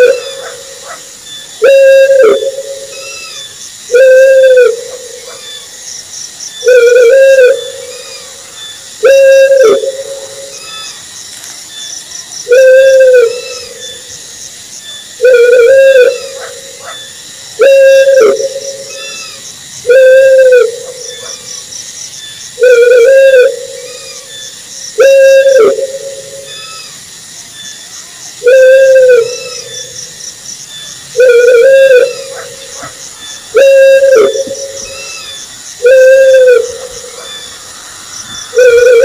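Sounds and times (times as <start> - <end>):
owl hooting: 0.0 - 5.7, 6.6 - 11.0, 12.4 - 14.1, 15.2 - 21.5, 22.6 - 27.0, 28.4 - 30.0, 31.2 - 39.0.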